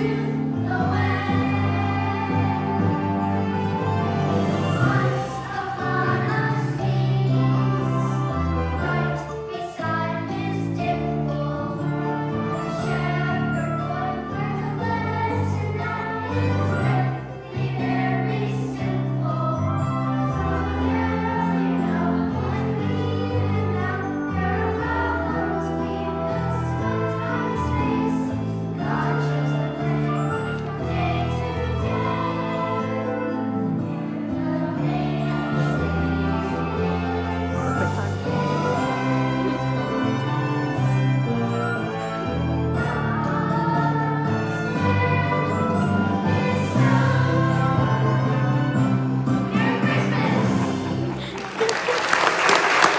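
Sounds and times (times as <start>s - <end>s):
choir singing: 0.0s - 51.6s
instrumental accompaniment: 0.0s - 51.6s.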